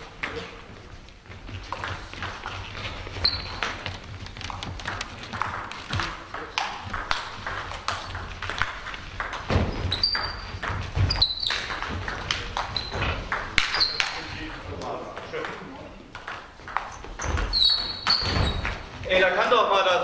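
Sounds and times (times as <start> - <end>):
table tennis ball bouncing: 0.0 - 0.6, 1.4 - 18.9
shoes squeaking on floor: 0.0 - 15.0, 15.9 - 19.2.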